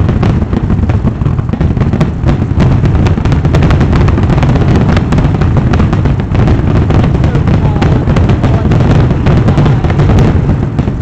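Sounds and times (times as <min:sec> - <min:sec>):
fireworks booming and cracking: 0:00.0 - 0:11.0.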